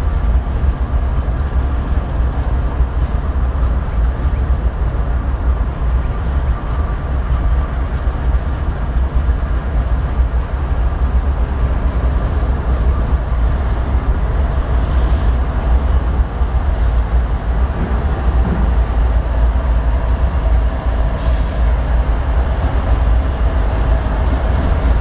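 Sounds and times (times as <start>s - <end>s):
diesel locomotives rumbling: 0.0s - 25.0s.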